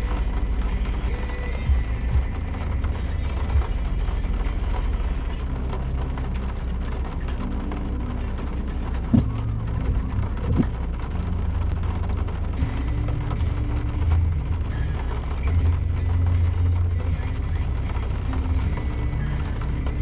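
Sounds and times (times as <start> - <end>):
off-road vehicle rumble: 0.0 - 20.0.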